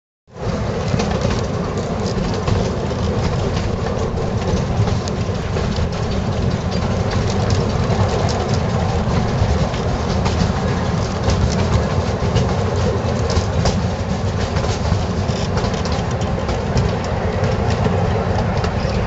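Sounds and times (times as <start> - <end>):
train carriage rumbling on track: 0.3 - 19.0.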